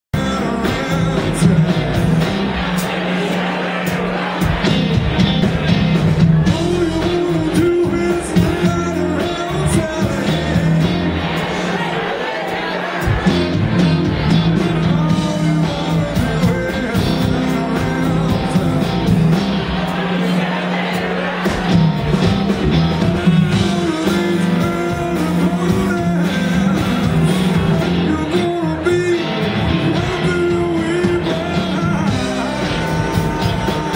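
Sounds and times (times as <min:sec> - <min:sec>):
drums: 0:00.1 - 0:33.9
keyboard: 0:00.1 - 0:33.9
live rock band playing: 0:00.2 - 0:33.9
electric guitar: 0:03.8 - 0:11.6, 0:13.1 - 0:20.1, 0:21.4 - 0:33.9.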